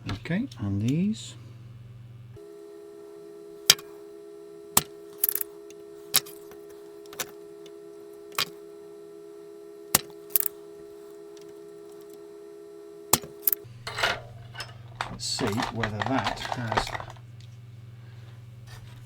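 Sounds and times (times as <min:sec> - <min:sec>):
steady electric hum: 0:00.0 - 0:19.0.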